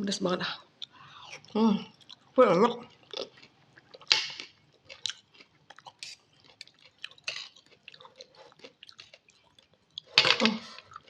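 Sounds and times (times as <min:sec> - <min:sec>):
person chewing noodles: 0:00.7 - 0:11.0.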